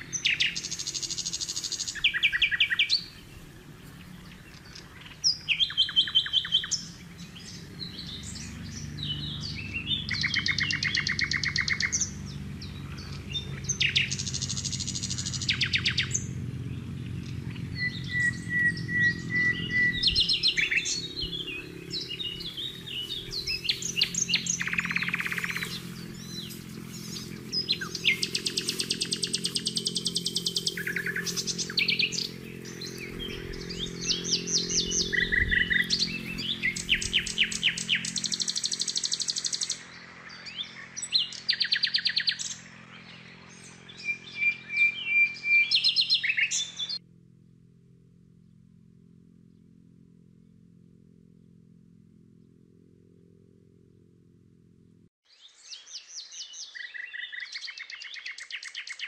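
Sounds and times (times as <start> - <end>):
birds singing and calling: 0.0 - 47.0, 55.3 - 59.0.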